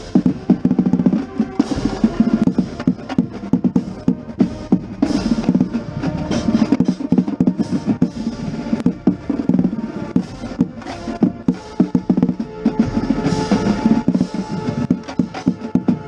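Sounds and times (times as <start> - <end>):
bass drum strokes: 0.0 - 16.0
marching band playing: 0.0 - 16.0.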